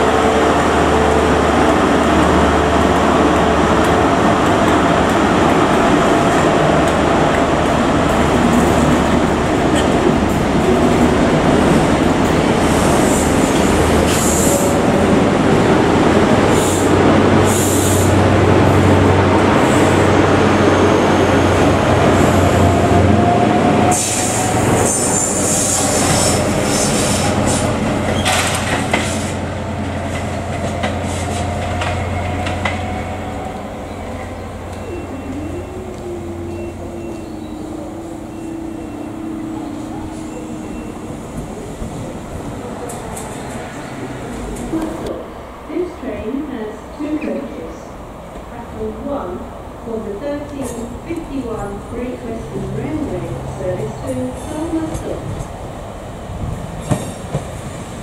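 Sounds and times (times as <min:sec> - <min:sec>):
train diesel engine running: 0:00.0 - 0:58.0
train wheels rumbling on track: 0:00.0 - 0:58.0.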